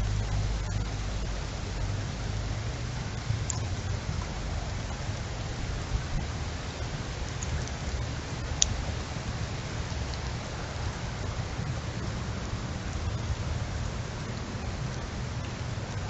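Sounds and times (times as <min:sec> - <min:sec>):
heavy rain in wind: 0:00.0 - 0:16.0
low fluctuating rumble: 0:00.0 - 0:16.0.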